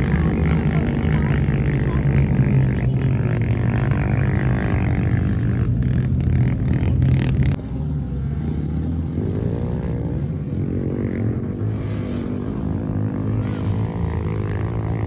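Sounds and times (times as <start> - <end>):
vehicle engines droning: 0.0 - 15.0.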